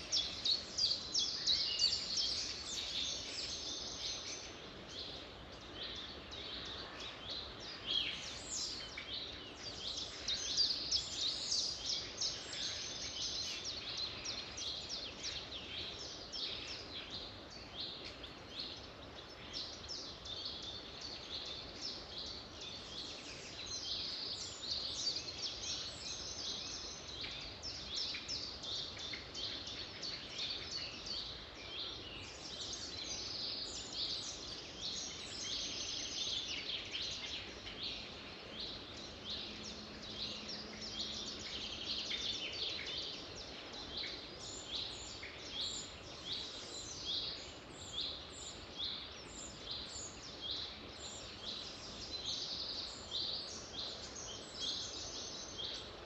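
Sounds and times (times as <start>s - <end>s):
birds singing and chirping: 0.0s - 56.0s
low background hiss: 0.0s - 56.0s.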